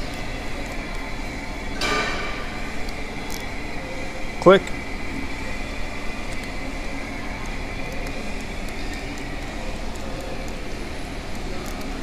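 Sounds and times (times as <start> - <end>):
faint steady whine: 0.0 - 12.0
machinery hum and hiss: 0.0 - 12.0.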